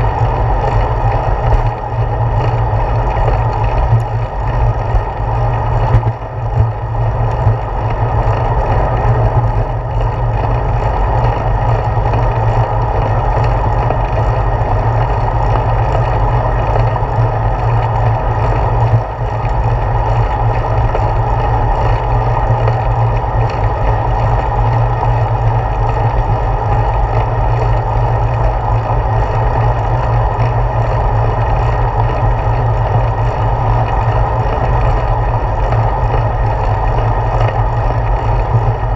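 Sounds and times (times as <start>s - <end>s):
bicycle road rumble: 0.0s - 38.9s.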